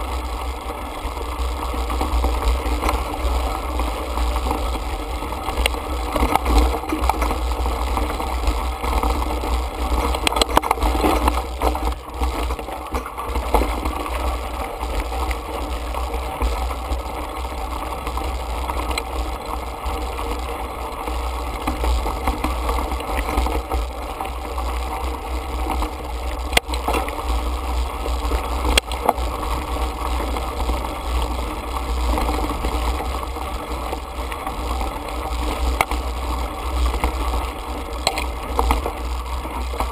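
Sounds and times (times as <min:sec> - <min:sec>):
bike rattling: 0:00.0 - 0:39.9.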